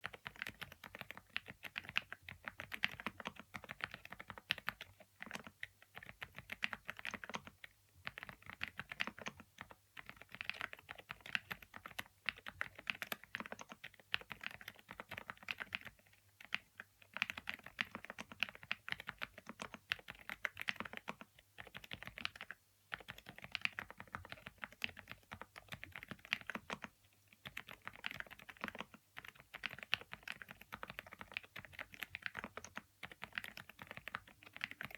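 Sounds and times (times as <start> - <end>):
typing on mechanical keyboard: 0.0 - 34.9.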